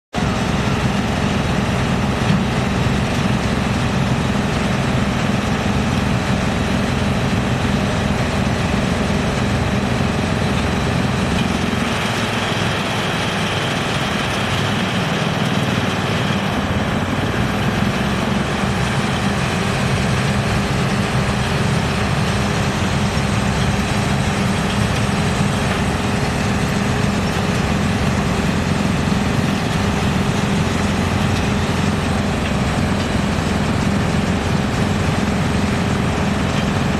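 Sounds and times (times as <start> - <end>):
wood crusher machine droning: 0.2 - 36.9.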